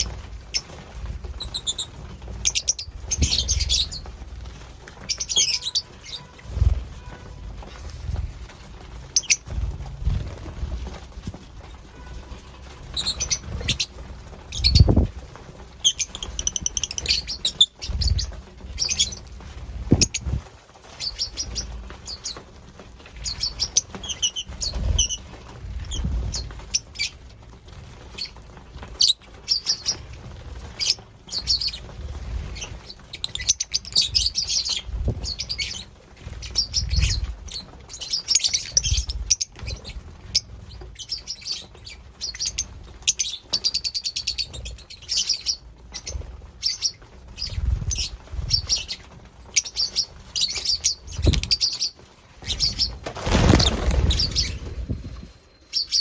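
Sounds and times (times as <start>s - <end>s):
lovebirds chirping: 0.0s - 4.2s, 4.9s - 7.9s, 9.1s - 9.6s, 12.9s - 15.1s, 15.8s - 22.4s, 23.1s - 27.2s, 30.6s - 56.0s
wing flutters: 0.0s - 40.9s, 44.4s - 55.9s.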